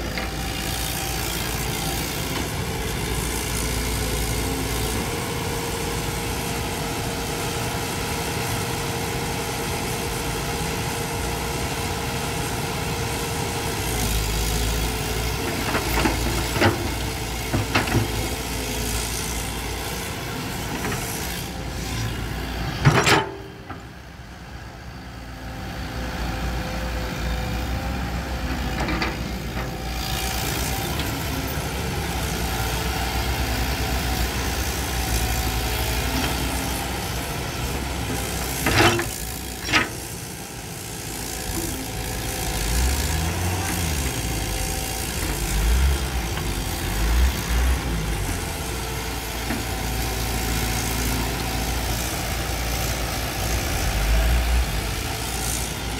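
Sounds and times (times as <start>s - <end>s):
diesel excavator engine running: 0.0s - 55.9s.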